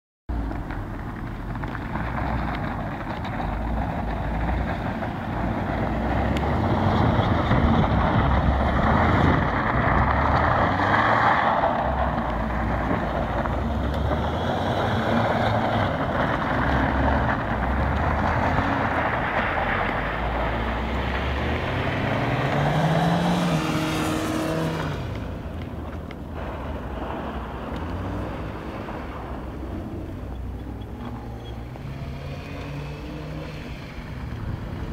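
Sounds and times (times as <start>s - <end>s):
car engine under throttle: 0.3s - 34.9s
tyres rushing on snow: 0.3s - 34.9s.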